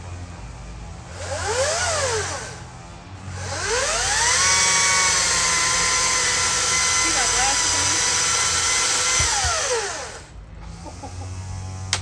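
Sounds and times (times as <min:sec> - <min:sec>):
chainsaw engine revving: 0:00.0 - 0:10.3.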